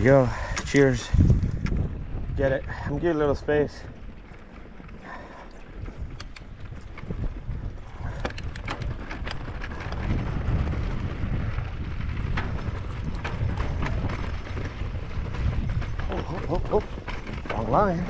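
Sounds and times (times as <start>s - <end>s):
chain and frame rattling: 0.0s - 18.0s
tyres rolling over rough ground: 0.0s - 18.0s
wind rumbling on microphone: 0.0s - 18.0s.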